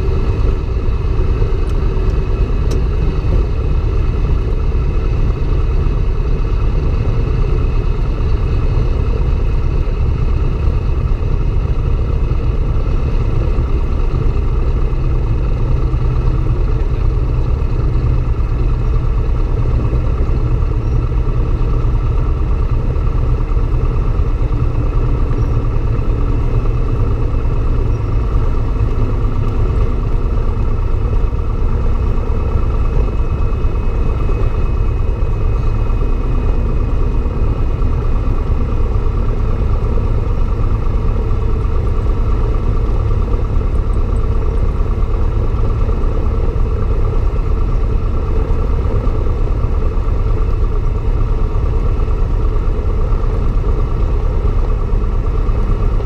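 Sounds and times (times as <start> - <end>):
propeller aircraft engine rumbling: 0.0 - 56.0.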